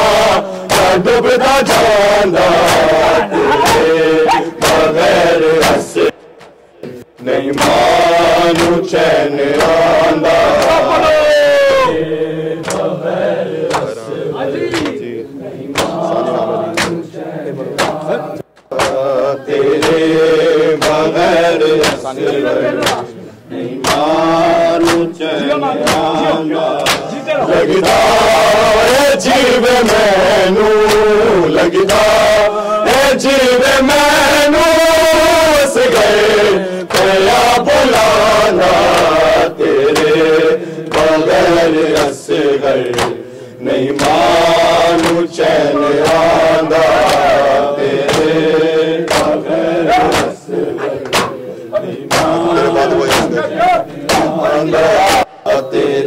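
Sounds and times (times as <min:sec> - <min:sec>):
men chanting a lament: 0:00.0 - 0:56.0.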